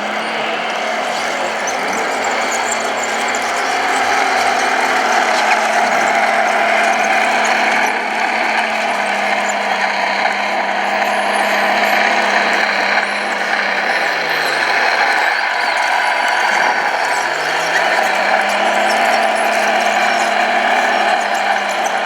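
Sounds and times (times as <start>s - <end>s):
electric motors with gear whine: 0.0s - 22.0s.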